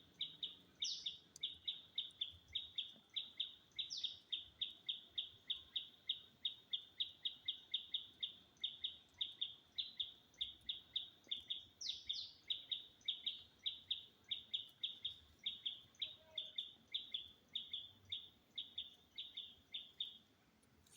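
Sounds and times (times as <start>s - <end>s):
bird chirping: 0.0s - 20.3s.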